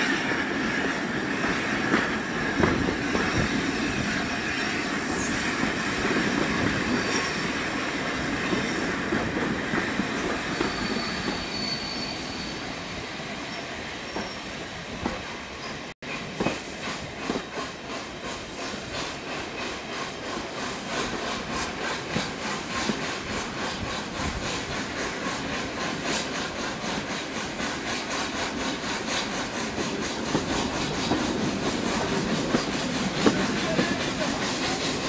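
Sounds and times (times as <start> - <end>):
train wheels clicking over track: 0.0 - 12.1, 14.1 - 35.0
train rumble: 0.0 - 13.3, 13.9 - 35.0.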